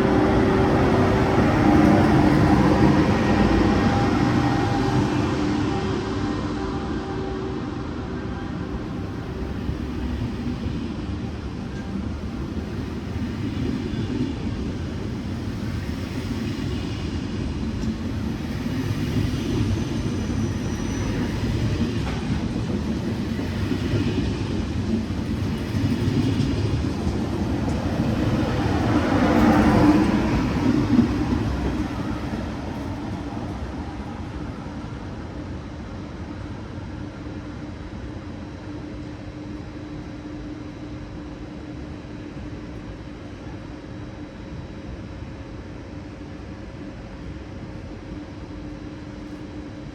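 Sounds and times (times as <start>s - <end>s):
high-speed train rumble: 0.0s - 49.9s.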